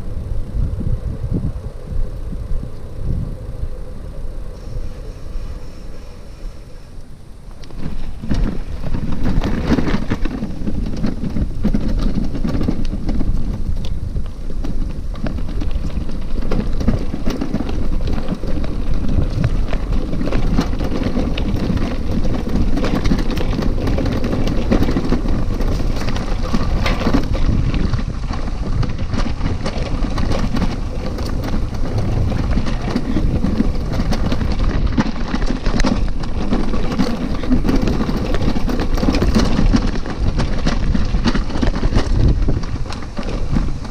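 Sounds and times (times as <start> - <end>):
wind noise on microphone: 0.0 - 43.9
tyres rumbling on dirt: 4.6 - 43.9
bike knocks and rattles: 7.6 - 43.9.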